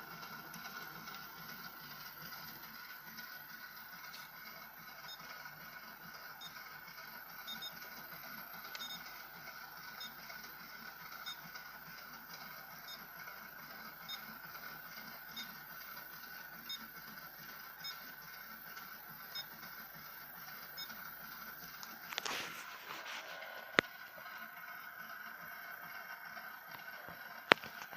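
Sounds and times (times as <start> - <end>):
printer faint steady whine: 0.0 - 27.9.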